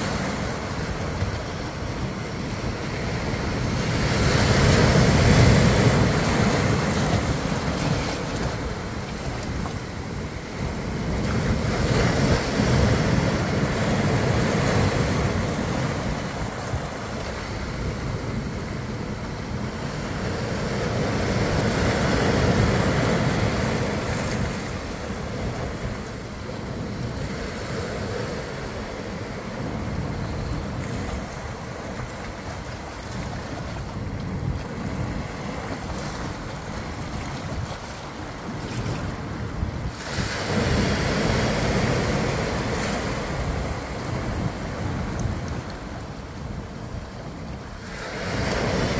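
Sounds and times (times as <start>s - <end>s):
ocean surf washing on beach: 0.0s - 48.9s
wind buffeting microphone: 0.0s - 48.9s.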